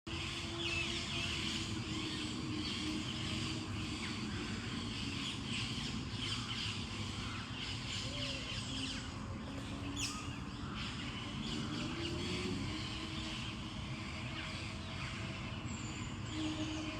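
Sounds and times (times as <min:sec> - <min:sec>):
birds chirping and singing: 0:00.1 - 0:16.9.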